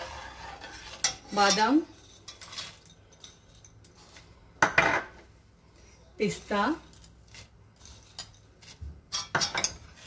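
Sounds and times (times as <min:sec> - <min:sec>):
metal spoon stirring in pot: 0:00.0 - 0:04.4, 0:06.3 - 0:10.0.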